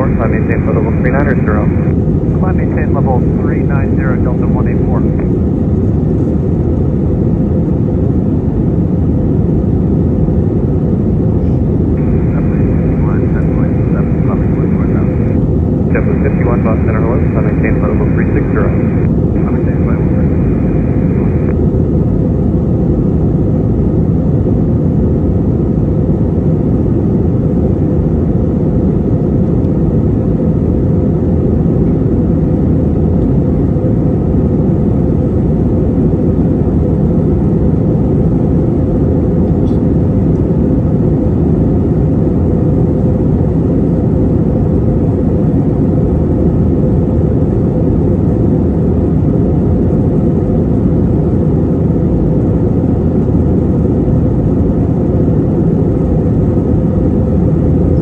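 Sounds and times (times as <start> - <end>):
aircraft cabin rumble: 0.0 - 58.0
faint steady hum: 0.0 - 58.0.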